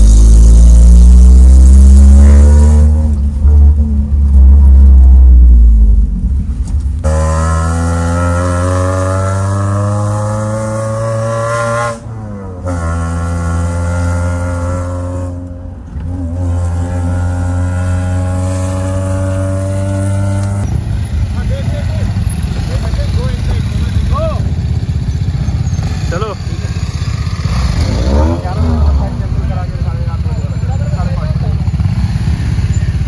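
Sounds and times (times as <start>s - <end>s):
off-road vehicle engine revving: 0.0s - 6.2s, 7.0s - 33.0s.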